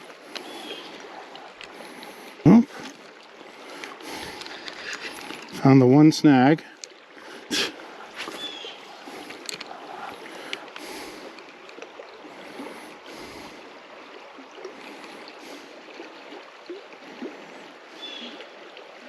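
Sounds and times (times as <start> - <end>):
river water running: 0.0 - 19.0.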